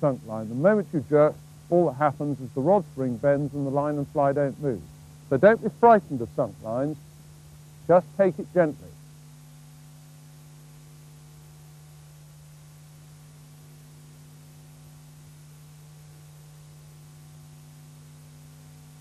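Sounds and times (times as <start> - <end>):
low electrical hum: 0.0 - 19.0
tape hiss: 0.0 - 19.0.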